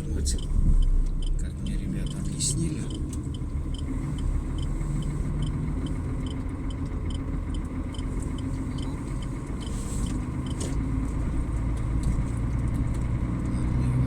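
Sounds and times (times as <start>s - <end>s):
turn signal clicking: 0.0s - 13.8s
engine and road rumble: 0.0s - 14.0s.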